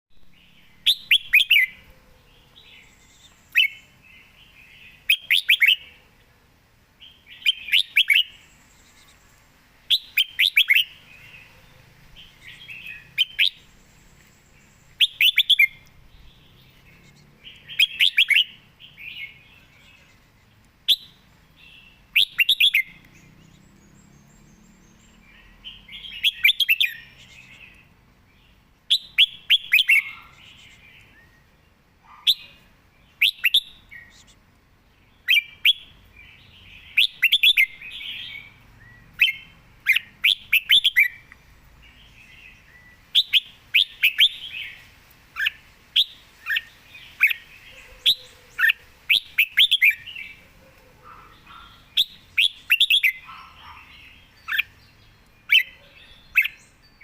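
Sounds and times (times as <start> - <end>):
bird singing short song phrases: 0.1 - 6.3, 7.0 - 57.0.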